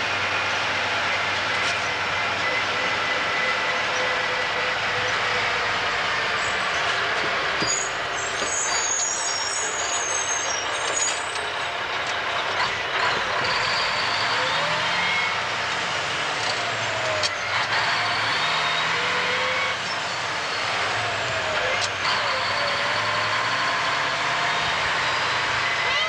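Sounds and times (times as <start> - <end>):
road noise: 0.0 - 26.0
truck diesel engine driving: 0.0 - 26.0.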